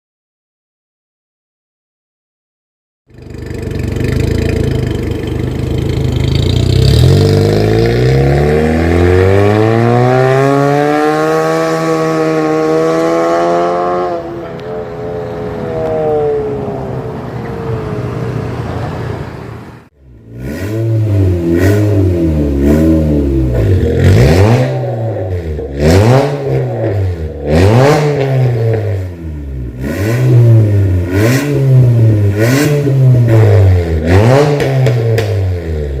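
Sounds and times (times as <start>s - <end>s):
car engine revving: 3.1s - 36.0s.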